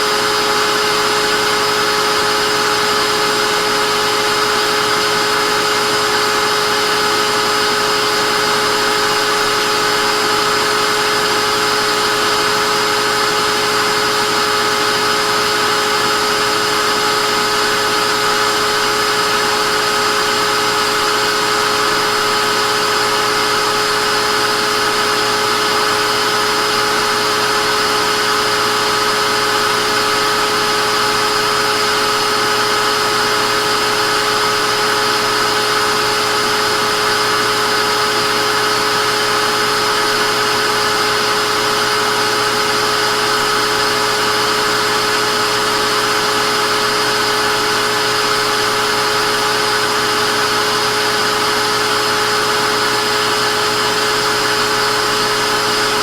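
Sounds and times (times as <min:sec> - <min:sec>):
vacuum cleaner motor running: 0:00.0 - 0:56.0.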